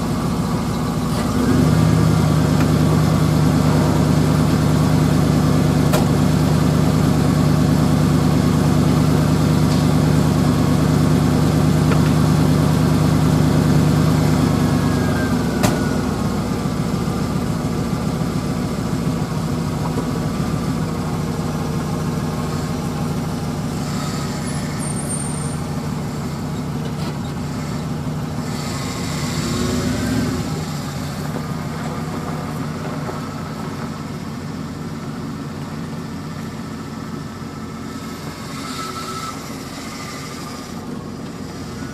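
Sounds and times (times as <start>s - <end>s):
pickup truck engine running: 0.0s - 41.9s.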